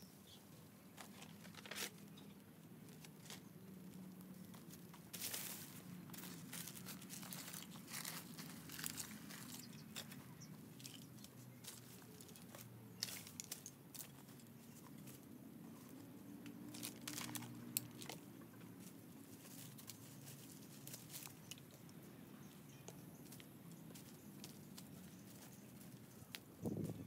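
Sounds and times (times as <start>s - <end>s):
dry leaves and twigs crunching: 0.9s - 27.0s.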